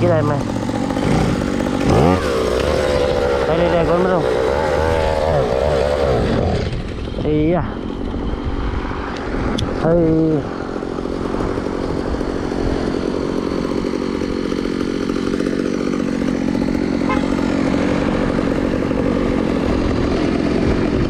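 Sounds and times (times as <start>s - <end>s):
scooter engine buzzing: 0.0s - 21.0s.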